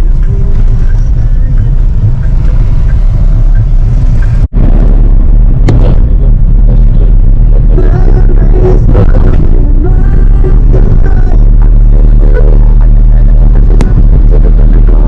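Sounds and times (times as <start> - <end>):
car low rumble: 0.0 - 15.0.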